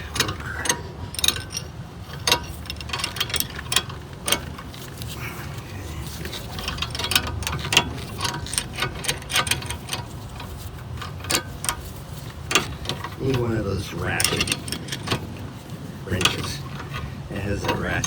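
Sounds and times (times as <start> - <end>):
hand tools clicking on metal: 0.0 - 18.0.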